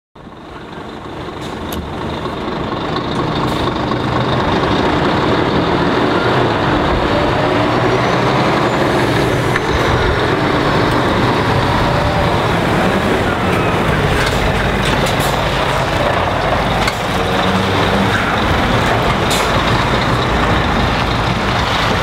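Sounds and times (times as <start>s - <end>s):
truck diesel engine running: 0.2s - 22.0s.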